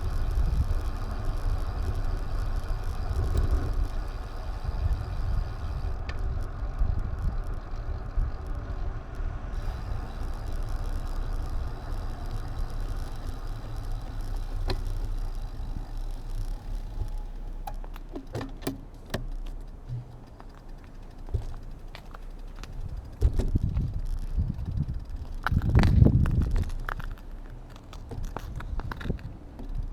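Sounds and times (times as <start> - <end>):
wind on microphone: 0.0 - 17.8, 21.3 - 29.9
road rumble: 0.0 - 29.9
sharp rattling clicks: 0.0 - 29.9.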